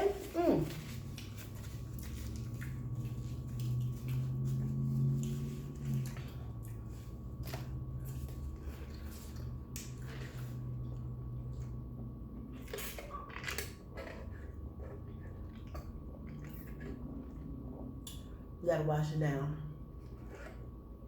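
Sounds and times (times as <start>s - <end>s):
steady low hum: 0.0s - 21.0s
person chewing and smacking: 0.7s - 18.3s.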